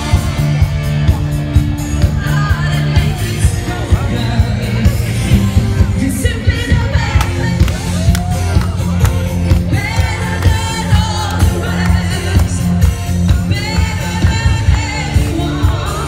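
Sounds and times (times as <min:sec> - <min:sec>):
dance music with singing: 0:00.0 - 0:16.0.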